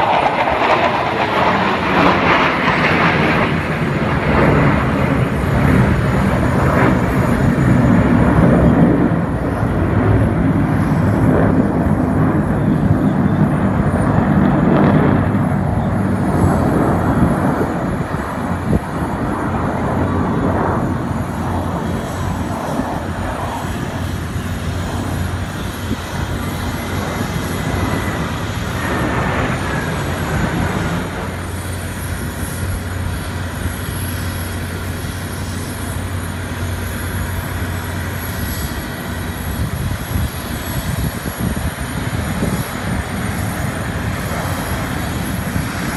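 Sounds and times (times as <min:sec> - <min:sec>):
jet engines rumbling overhead: 0:00.0 - 0:45.9.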